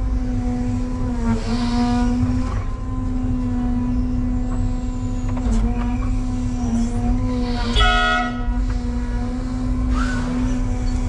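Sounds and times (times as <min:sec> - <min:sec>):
excavator motor hum: 0:00.0 - 0:11.0.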